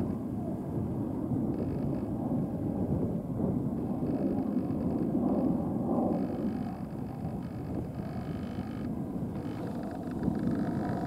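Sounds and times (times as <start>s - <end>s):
jet engines rumbling: 0.1s - 11.0s.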